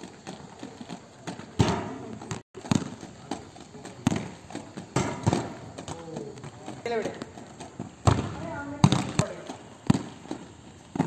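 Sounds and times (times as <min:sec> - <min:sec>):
ball bouncing on concrete: 0:00.0 - 0:11.0
skate wheels striking ground: 0:00.0 - 0:11.0.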